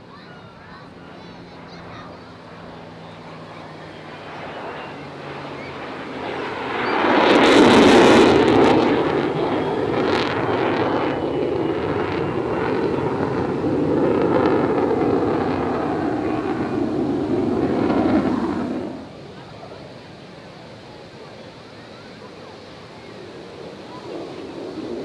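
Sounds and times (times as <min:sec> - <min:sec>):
military jet passing low: 0:00.0 - 0:25.0.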